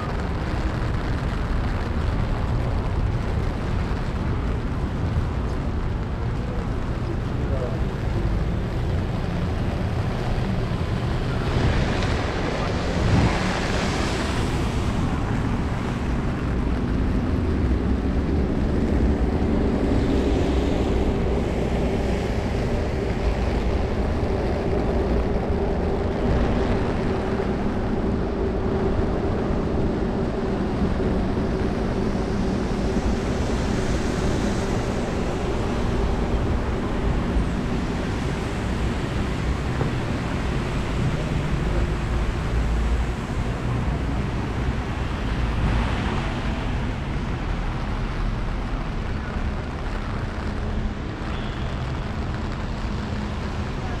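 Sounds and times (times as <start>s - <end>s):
car tyres hissing on wet road: 0.0s - 54.0s
wind rumble on microphone: 0.0s - 54.0s.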